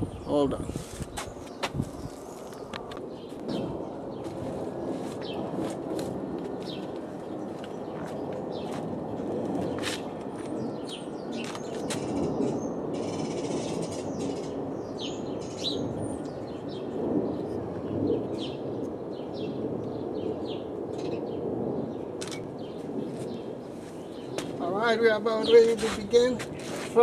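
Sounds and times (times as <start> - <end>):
small birds chirping: 0.1 - 5.6, 6.5 - 8.8, 9.6 - 27.0.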